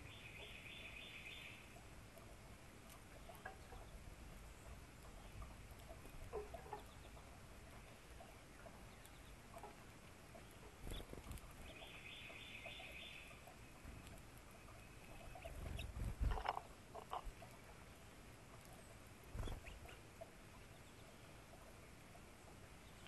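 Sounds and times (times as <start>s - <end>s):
faint songbird song: 0.0s - 23.0s
soft chirps and clicks: 0.0s - 23.0s.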